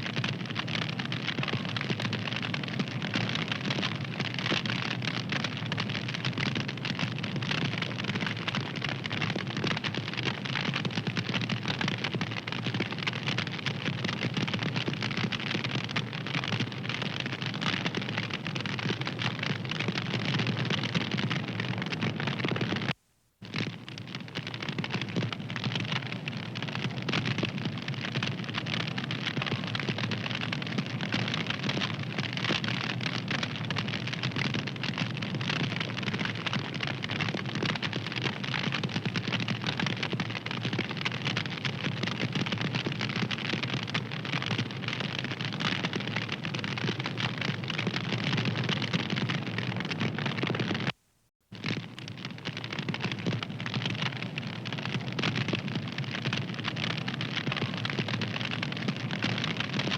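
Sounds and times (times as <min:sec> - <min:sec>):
wood fire crackling: 0:00.1 - 0:59.9.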